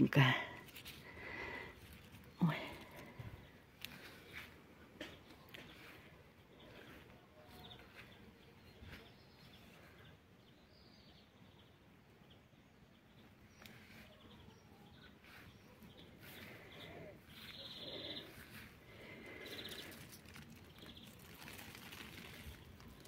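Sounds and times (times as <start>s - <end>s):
faint outdoor ambience: 0.0s - 23.0s.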